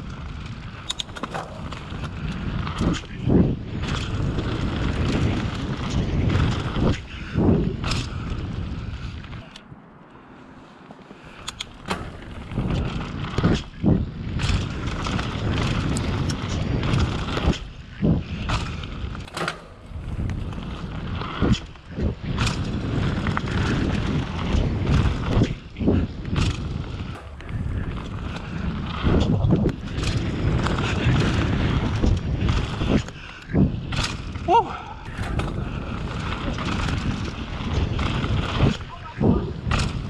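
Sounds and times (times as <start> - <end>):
tyres rumbling on dirt: 0.0 - 9.4, 11.8 - 40.0
bike rattling: 0.0 - 40.0.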